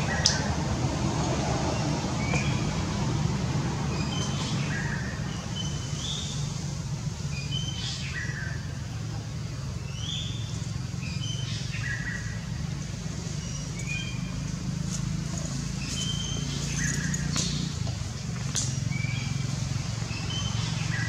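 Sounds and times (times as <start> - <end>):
birdsong: 0.0 - 0.8, 1.6 - 21.0.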